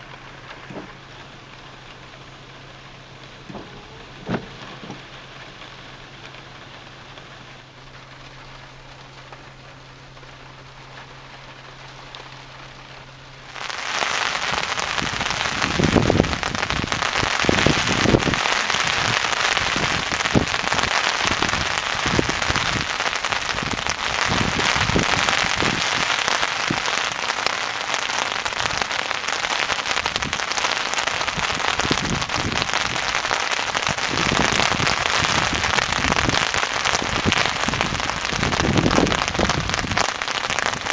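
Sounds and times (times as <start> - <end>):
faint steady hum: 0.0 - 40.9
heavy rain on hard surfaces: 0.0 - 40.9.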